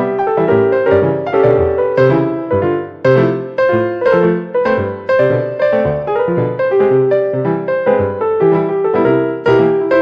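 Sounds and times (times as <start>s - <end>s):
gentle piano melody: 0.0s - 10.0s.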